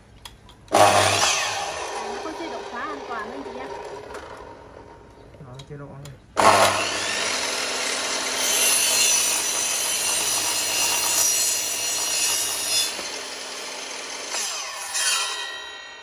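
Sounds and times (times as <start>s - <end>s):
miter saw cutting wood: 0.7s - 5.0s, 6.4s - 16.0s.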